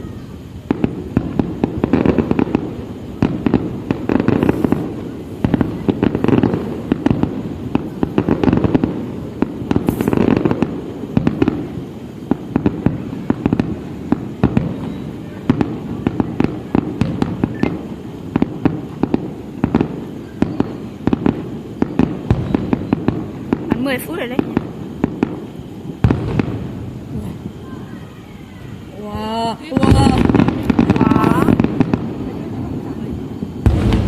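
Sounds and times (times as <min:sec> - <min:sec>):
fireworks bangs and cracks: 0:00.0 - 0:34.0.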